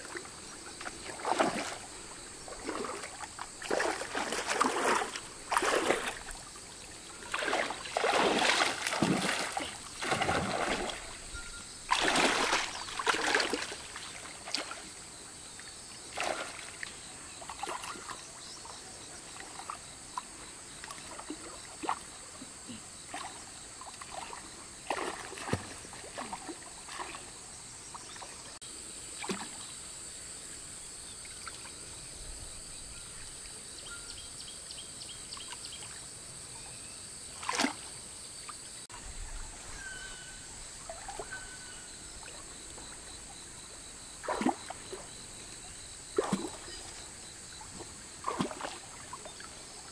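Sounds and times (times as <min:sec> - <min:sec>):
water splashing and sloshing: 0:00.0 - 0:28.6, 0:29.2 - 0:29.8, 0:37.3 - 0:49.9.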